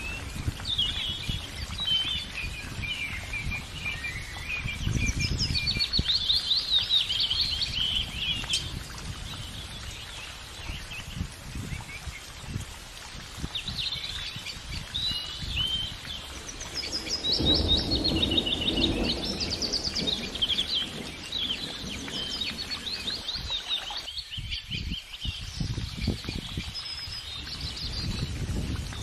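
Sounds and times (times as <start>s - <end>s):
songbirds chirping and trilling: 0.0s - 12.4s, 13.2s - 29.0s.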